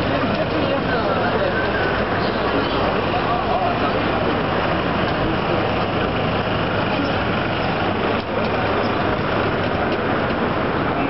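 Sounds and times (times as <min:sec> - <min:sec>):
city street noise: 0:00.0 - 0:11.0
low engine rumble: 0:00.0 - 0:11.0.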